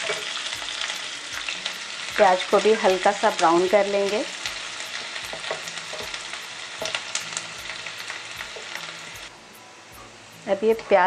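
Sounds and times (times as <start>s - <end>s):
garlic and onion sizzling in oil: 0.0s - 11.0s.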